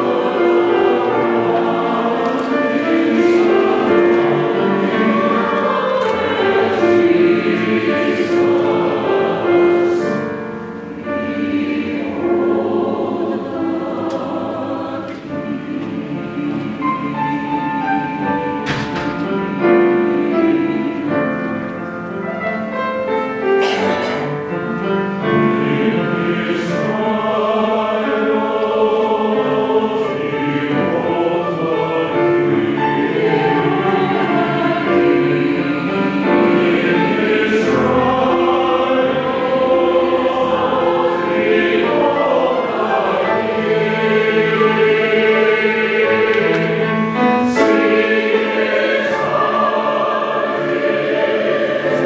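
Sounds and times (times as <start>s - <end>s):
mixed choir singing: 0.0s - 52.0s.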